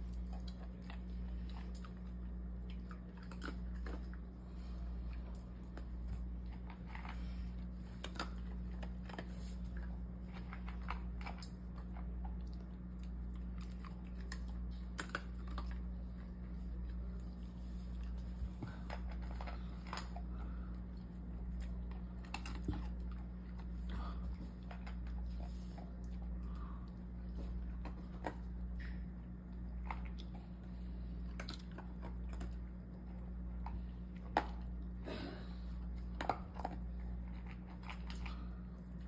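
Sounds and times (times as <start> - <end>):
dog crunching dry kibble: 0.0 - 39.0
steady low hum: 0.0 - 39.0.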